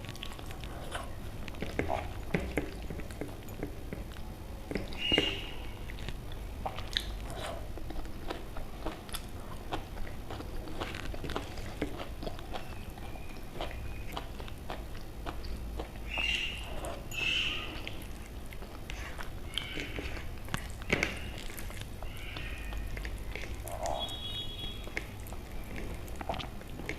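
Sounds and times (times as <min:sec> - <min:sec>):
person chewing food: 0:00.0 - 0:26.9.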